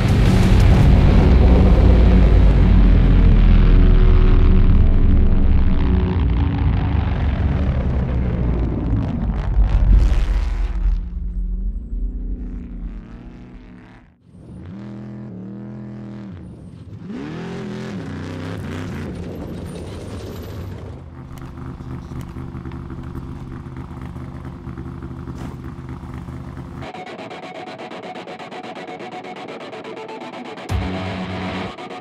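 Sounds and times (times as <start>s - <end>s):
truck engine revving and idling: 0.0s - 26.9s.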